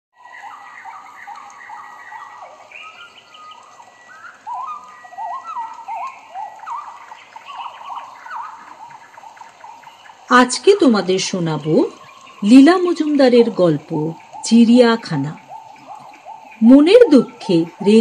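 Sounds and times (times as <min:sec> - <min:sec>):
birds singing and chirping: 0:00.2 - 0:18.0.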